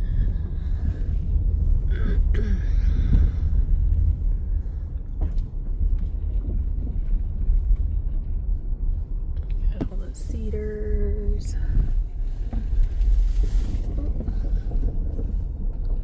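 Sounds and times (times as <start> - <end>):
car rolling on gravel: 0.2 - 16.0.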